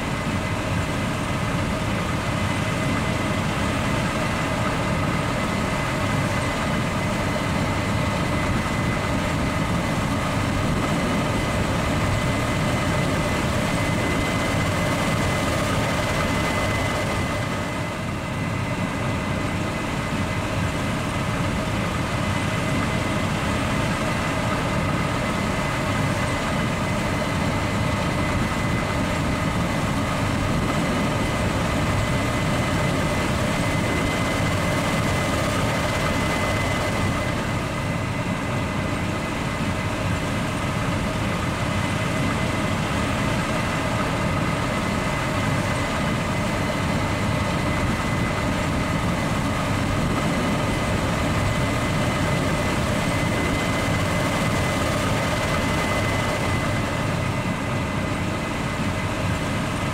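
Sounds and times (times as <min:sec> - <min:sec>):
diesel engine rumbling: 0:00.0 - 0:59.9
high-pitched machinery whine: 0:00.0 - 0:59.9.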